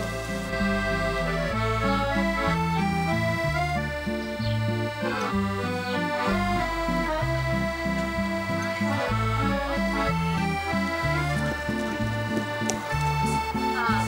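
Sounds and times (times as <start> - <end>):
accordion music: 0.0 - 14.0.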